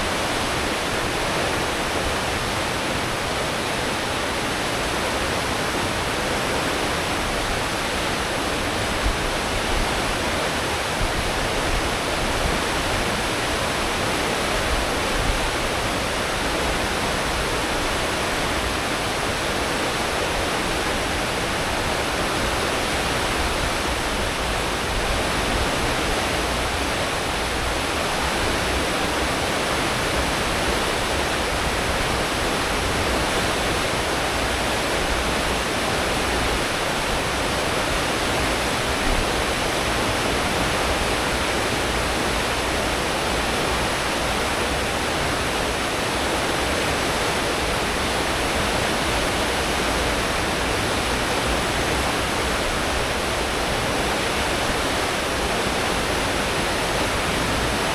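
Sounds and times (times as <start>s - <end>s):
ship wake churning water: 0.0s - 57.9s.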